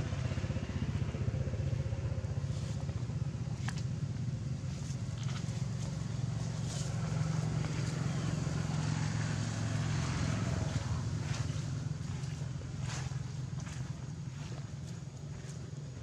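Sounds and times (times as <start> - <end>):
motor vehicle engine hum: 0.0 - 16.0.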